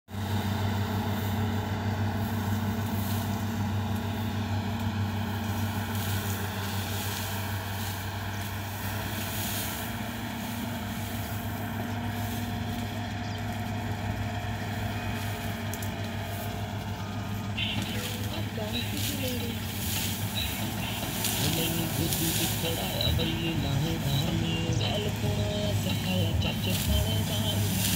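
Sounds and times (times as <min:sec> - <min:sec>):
combine harvester engine drone: 0:00.1 - 0:27.9.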